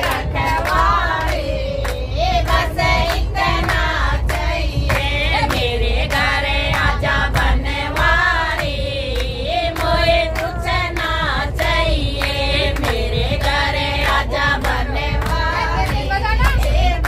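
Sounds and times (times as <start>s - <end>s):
group singing devotional song: 0.0s - 17.0s
hand claps: 0.0s - 17.0s
train rumbling: 0.0s - 17.0s.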